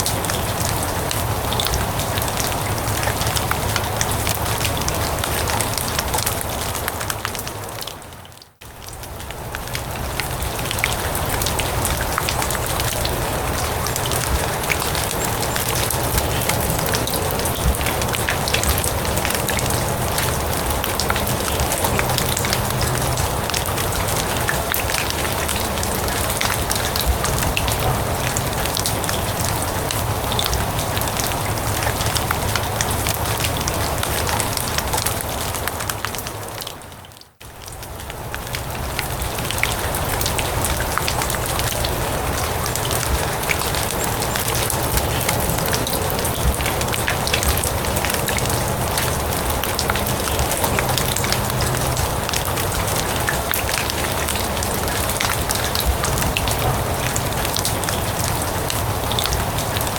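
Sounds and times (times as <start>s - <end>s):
rain falling on grass: 0.0s - 59.9s.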